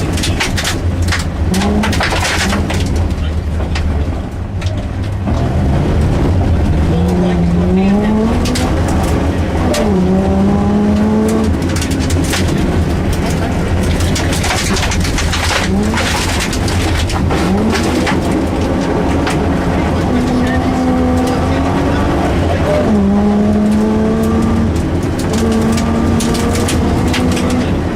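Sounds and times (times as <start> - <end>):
rally car engine revving: 0.0 - 27.9.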